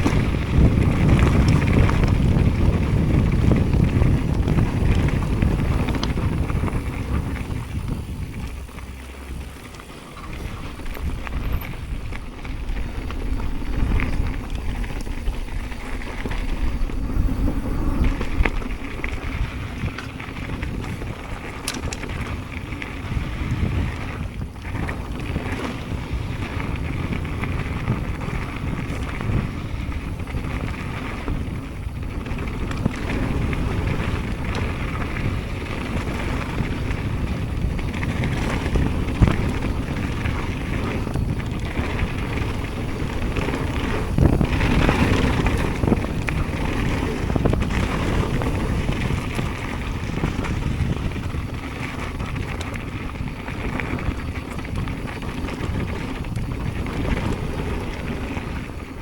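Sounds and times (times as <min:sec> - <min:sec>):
bike knocking over rough ground: 0:00.0 - 0:59.0
bike tyre and trail noise: 0:00.0 - 0:59.0
wind rushing over microphone: 0:00.0 - 0:59.0.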